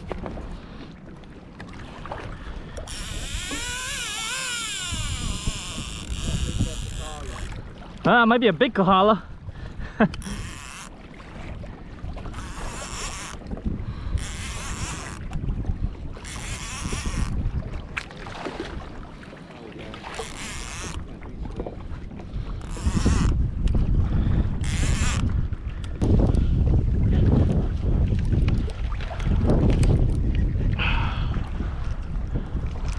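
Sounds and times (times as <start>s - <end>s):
wind buffeting microphone: 1.8s - 8.0s, 8.6s - 19.2s, 20.0s - 32.9s.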